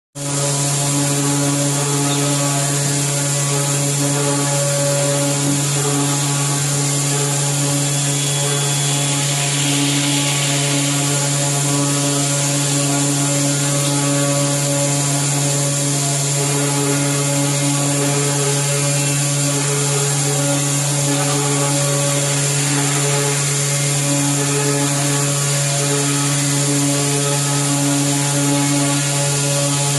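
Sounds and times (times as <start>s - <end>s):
milling machine cutting hum: 0.2s - 29.9s
coolant spraying hiss: 4.1s - 29.7s.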